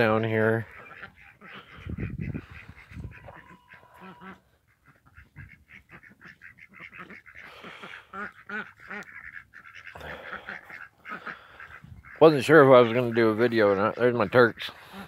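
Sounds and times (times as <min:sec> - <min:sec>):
turkeys calling: 0:00.0 - 0:15.0.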